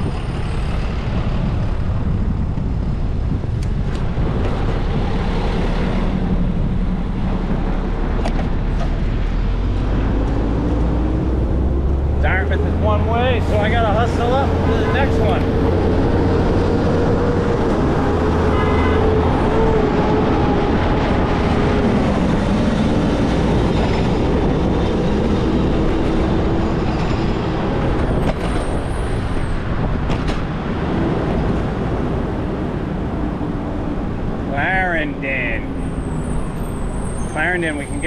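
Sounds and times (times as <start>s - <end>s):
steady rushing noise: 0.0s - 37.9s
car engines: 0.0s - 38.0s.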